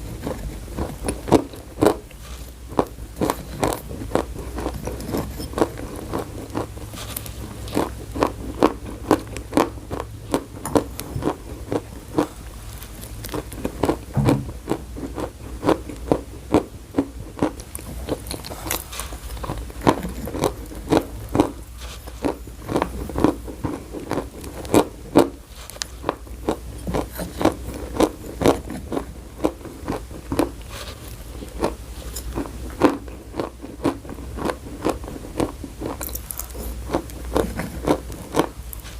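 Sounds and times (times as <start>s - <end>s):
chewing and crunching chalk: 0.0s - 38.9s
low steady hum: 0.0s - 38.9s.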